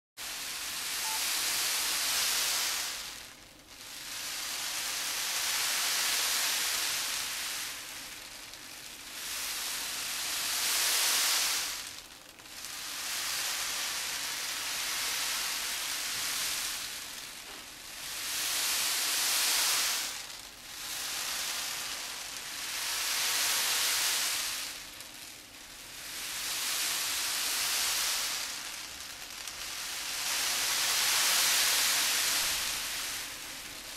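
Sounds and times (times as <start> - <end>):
dried beans rolling hissing: 0.2 - 33.9.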